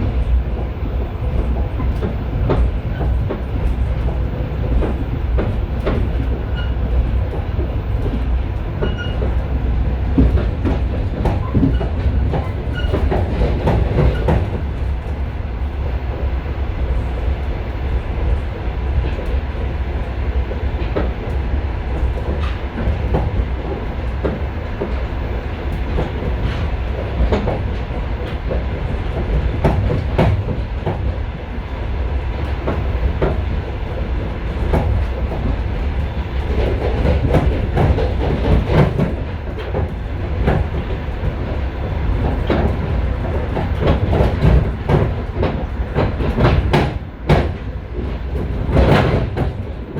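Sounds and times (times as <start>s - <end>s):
railway carriage rumble: 0.0s - 49.9s.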